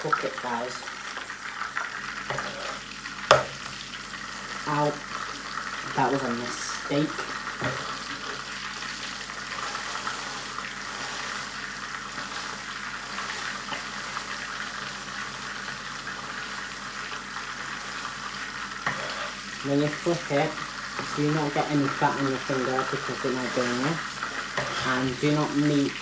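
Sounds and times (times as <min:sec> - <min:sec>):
burger patty sizzling in a pan: 0:00.0 - 0:26.0.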